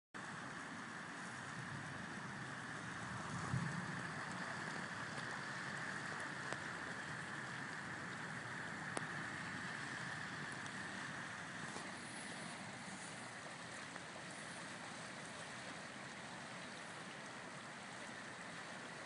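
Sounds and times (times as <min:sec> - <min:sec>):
water rushing: 0:00.2 - 0:19.0.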